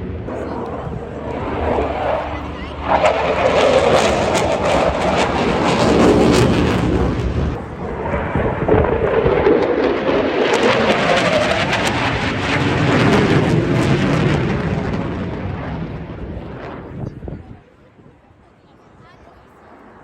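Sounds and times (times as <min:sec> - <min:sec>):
jet engines rumbling with crackle: 0:00.0 - 0:20.0.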